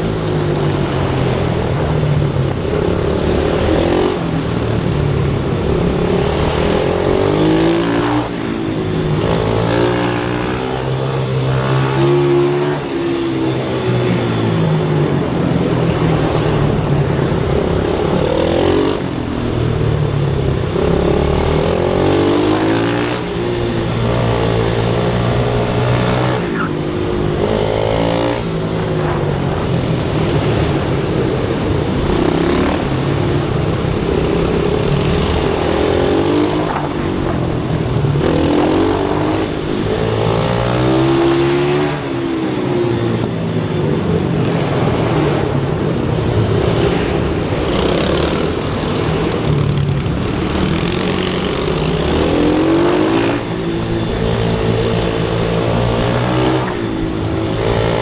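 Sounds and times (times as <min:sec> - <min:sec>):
small motorbike engine revving: 0:00.0 - 0:58.0.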